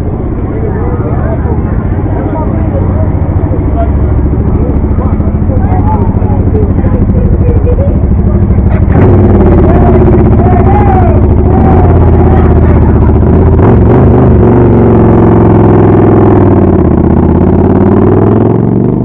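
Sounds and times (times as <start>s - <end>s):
motor vehicle engine running: 0.0s - 19.0s.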